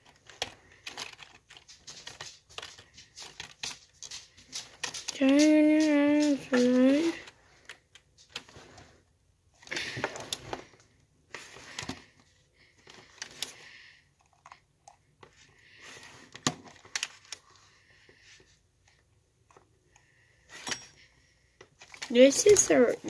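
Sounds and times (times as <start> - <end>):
mouse handling rustles: 0.0 - 23.0.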